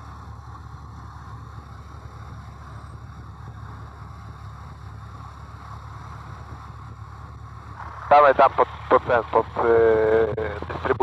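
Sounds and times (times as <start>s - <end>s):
small plane engine drone: 0.0s - 11.0s.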